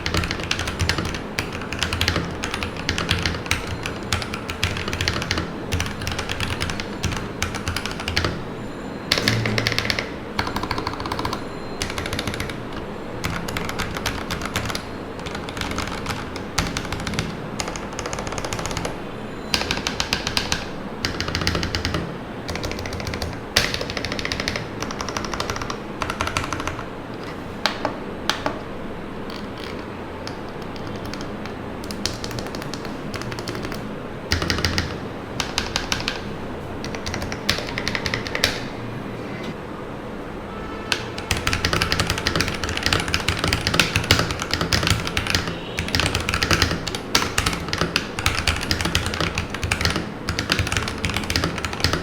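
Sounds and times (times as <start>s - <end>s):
mechanical keyboard typing: 0.0s - 8.5s, 9.1s - 38.7s, 40.9s - 52.0s.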